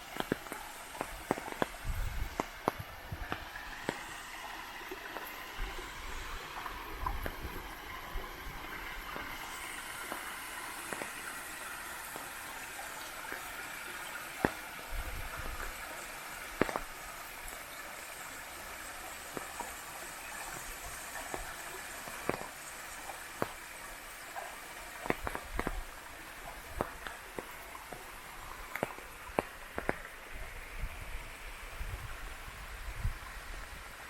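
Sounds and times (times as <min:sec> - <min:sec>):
rain falling: 0:00.0 - 0:30.3.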